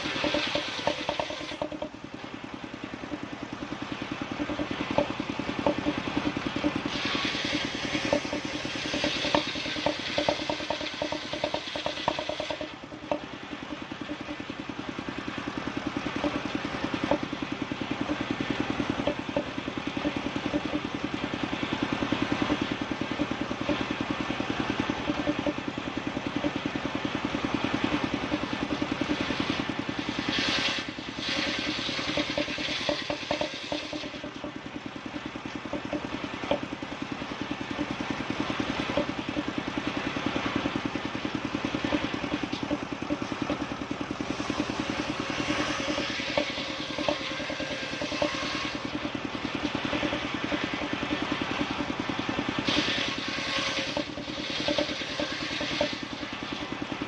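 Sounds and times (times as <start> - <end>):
sawmill saw chugging: 0.0 - 57.0.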